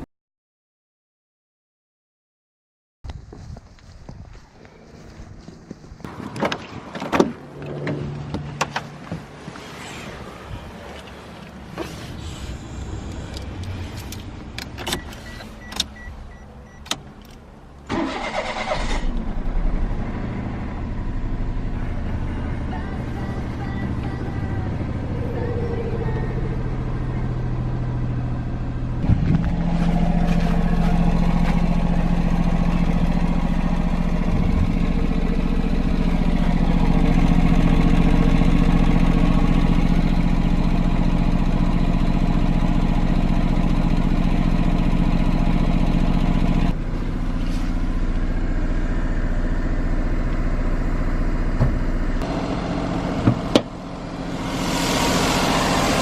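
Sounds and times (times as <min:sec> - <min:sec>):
car engine with loud exhaust: 0:03.1 - 0:56.0.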